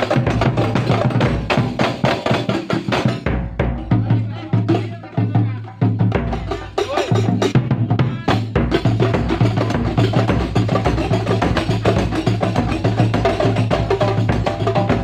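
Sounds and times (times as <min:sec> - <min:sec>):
sharp hand-drum strokes: 0:00.0 - 0:15.0
steady low drum: 0:00.0 - 0:15.0.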